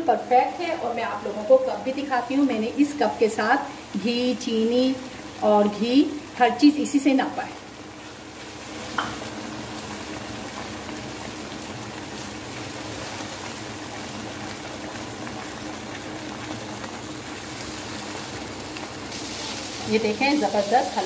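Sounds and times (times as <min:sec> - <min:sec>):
halwa bubbling and sizzling in pan: 0:00.0 - 0:21.0.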